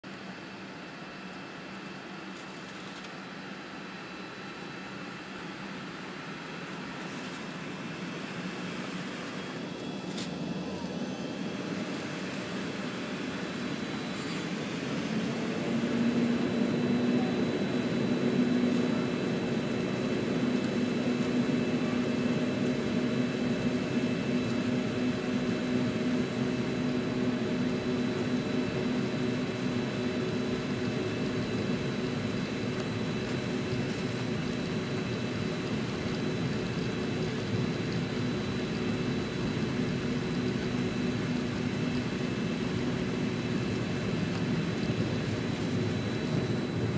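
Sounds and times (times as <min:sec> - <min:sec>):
high engine whine: 0:00.1 - 0:46.9.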